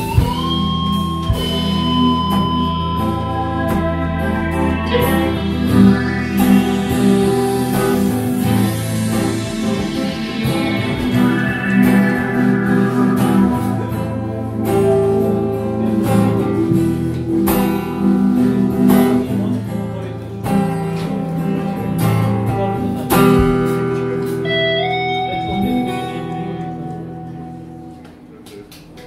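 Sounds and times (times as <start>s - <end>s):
guitar note sliding up: 0.0s - 19.6s, 23.0s - 28.1s
live rock band playing: 0.0s - 28.3s.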